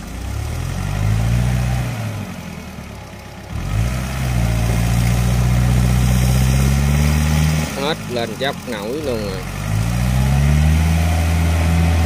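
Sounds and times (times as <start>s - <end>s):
tracked cart engine revving under load: 0.0s - 2.8s, 3.4s - 12.0s.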